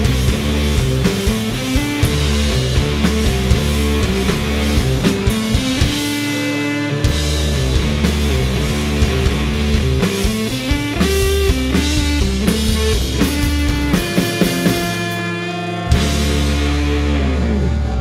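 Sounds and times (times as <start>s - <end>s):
low bass notes: 0.0s - 18.0s
rock band playing: 0.0s - 18.0s.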